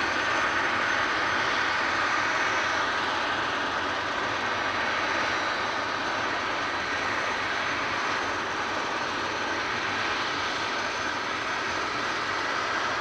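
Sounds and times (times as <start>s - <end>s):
jet engine whine taxiing: 0.0s - 13.0s.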